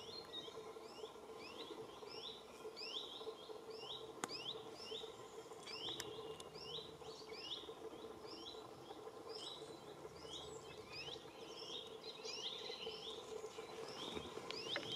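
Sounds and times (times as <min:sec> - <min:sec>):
faint steady hum: 0:00.0 - 0:14.9
small birds chirping: 0:00.0 - 0:14.9.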